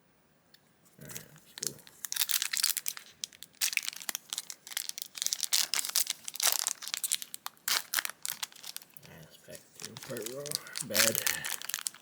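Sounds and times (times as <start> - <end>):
foil wrapper tearing and crinkling: 1.0 - 12.0.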